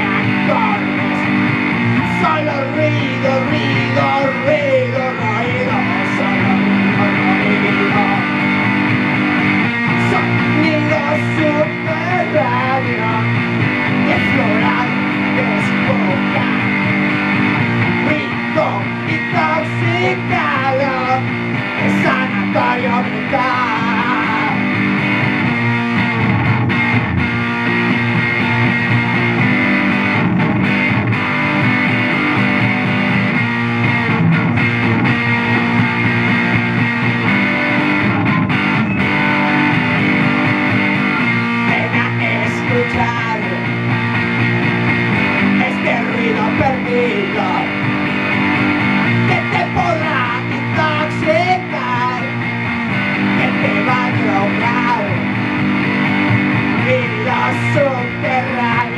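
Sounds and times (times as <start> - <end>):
electric guitar rock instrumental: 0.0 - 58.9.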